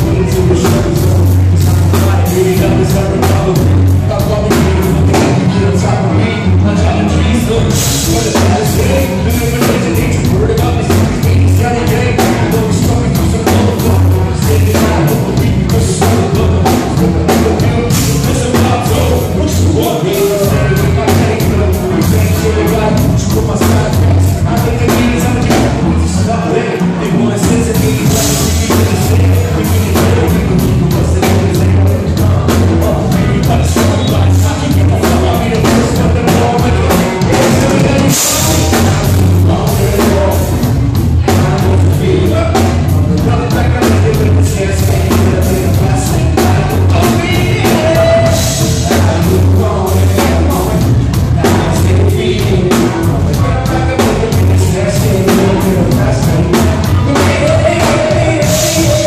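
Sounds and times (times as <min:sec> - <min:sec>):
drum kit with cymbals: 0:00.0 - 0:59.0
person singing: 0:00.0 - 0:59.0.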